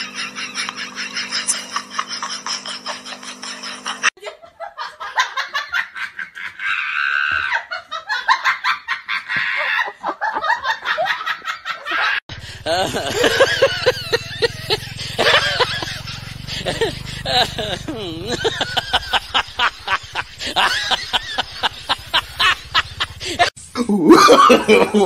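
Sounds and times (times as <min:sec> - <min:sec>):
people laughing: 0:00.0 - 0:25.0.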